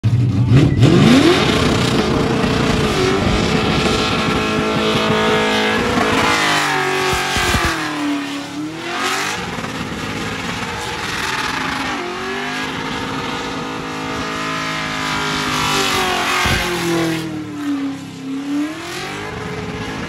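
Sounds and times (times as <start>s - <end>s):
vee eight engine revving hard: 0.1s - 20.0s.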